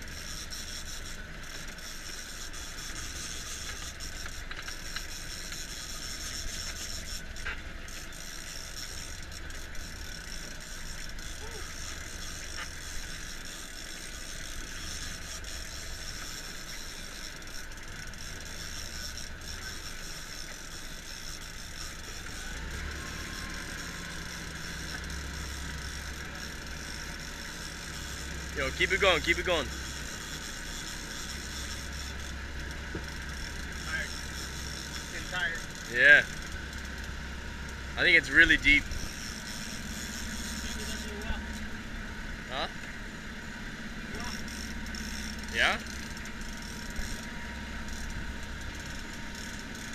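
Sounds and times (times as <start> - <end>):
boat engine running: 0.0 - 49.9
fishing reel whirring and clicking: 0.0 - 49.9
water noise: 0.0 - 49.9
wind: 0.0 - 49.9.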